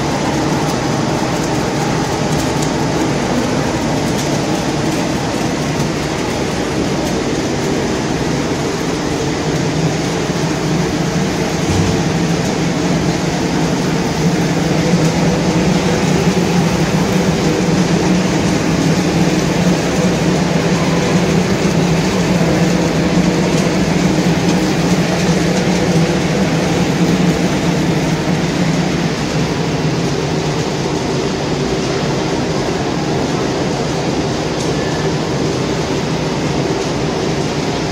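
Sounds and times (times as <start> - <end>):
machinery mechanical rush: 0.0 - 37.9.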